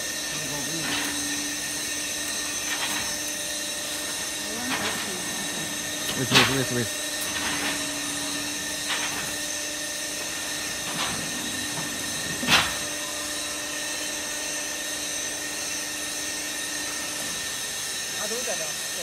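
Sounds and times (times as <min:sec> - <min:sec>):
block-making machinery humming: 0:00.0 - 0:19.0.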